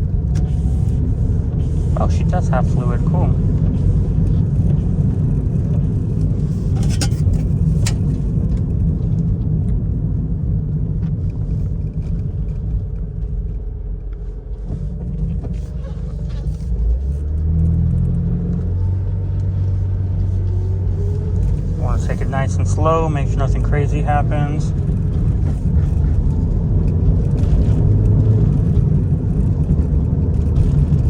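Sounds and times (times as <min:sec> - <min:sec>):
car engine rumble inside cabin: 0:00.0 - 0:31.0.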